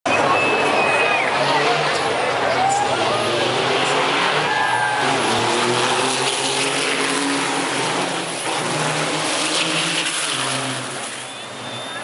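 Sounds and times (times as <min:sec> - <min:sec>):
race trucks passing: 0:00.1 - 0:12.0.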